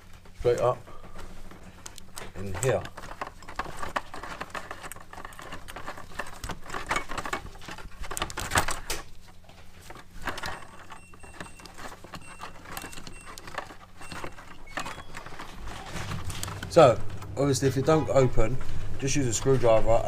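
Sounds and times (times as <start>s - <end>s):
rustling of wires and connectors: 0.0s - 20.0s.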